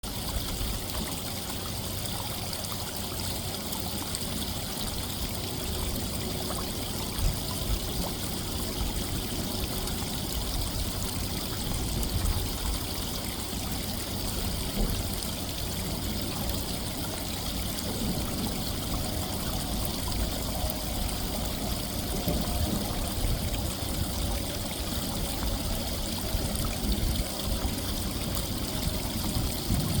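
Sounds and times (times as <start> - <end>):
creek trickling among ice: 0.0 - 30.0.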